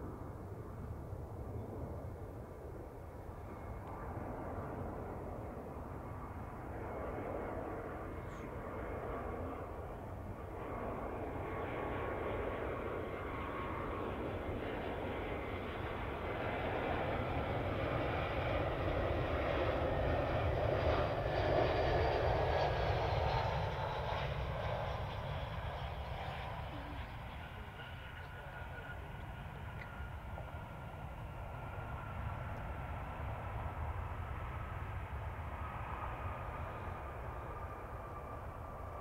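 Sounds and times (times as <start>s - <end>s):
jet engine rumble with whine: 0.0s - 39.0s.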